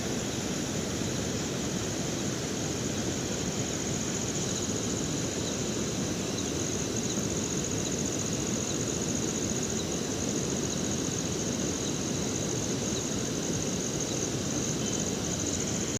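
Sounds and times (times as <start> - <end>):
high-pitched insect trill: 0.0 - 15.9.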